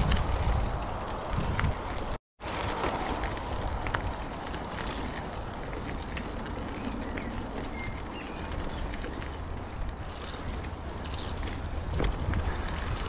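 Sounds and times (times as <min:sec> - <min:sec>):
bicycle rumble: 0:00.0 - 0:13.0
wind noise on microphone: 0:00.0 - 0:13.0.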